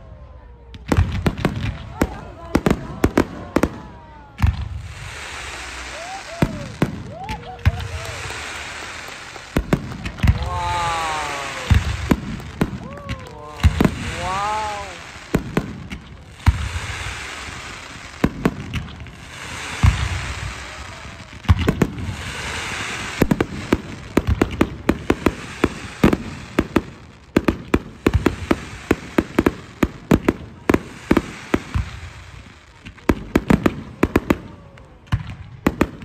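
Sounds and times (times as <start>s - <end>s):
fireworks bangs and crackles: 0.0s - 36.0s
fireworks hissing: 0.9s - 36.0s.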